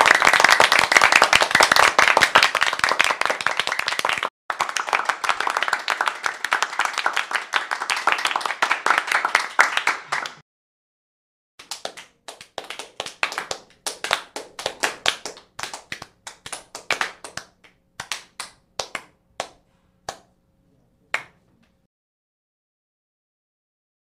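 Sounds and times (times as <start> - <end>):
hand clapping: 0.0 - 10.4, 11.6 - 20.4, 21.1 - 21.8.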